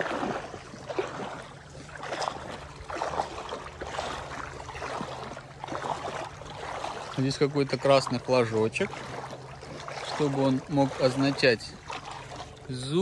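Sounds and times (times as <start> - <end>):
water lapping at shore: 0.0 - 13.0.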